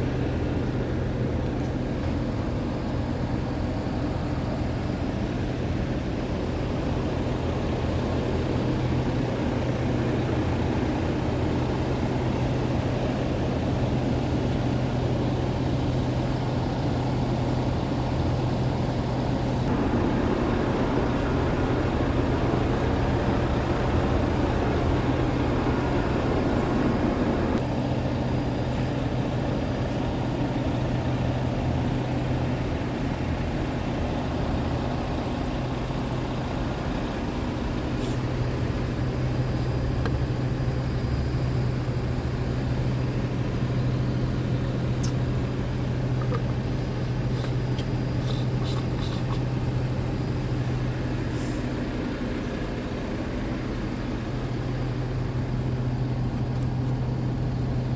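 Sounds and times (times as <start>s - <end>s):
truck diesel engine idling: 0.0s - 57.9s.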